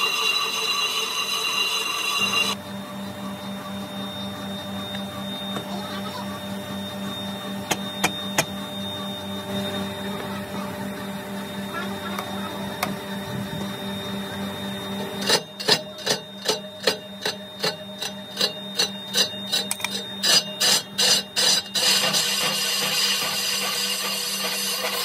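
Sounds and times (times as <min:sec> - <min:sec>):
metal lathe humming: 0:00.0 - 0:25.0.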